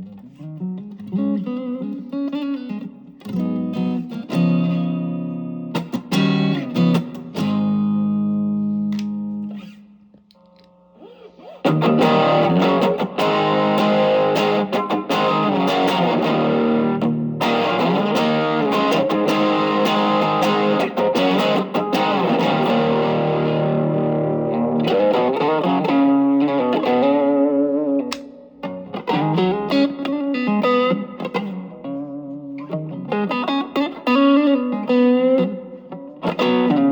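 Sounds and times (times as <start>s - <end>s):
electric guitar playing: 0.0s - 36.9s.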